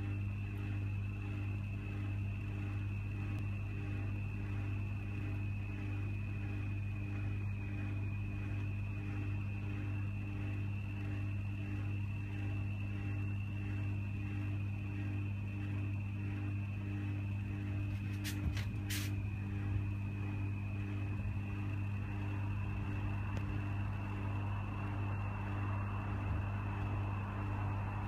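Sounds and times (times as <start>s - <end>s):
high-pitched whine: 0.0s - 28.0s
steady low hum: 0.0s - 28.0s.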